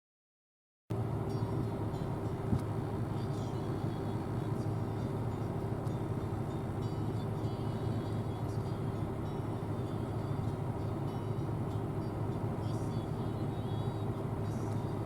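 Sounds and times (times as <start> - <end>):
combine harvester droning: 0.9 - 15.0.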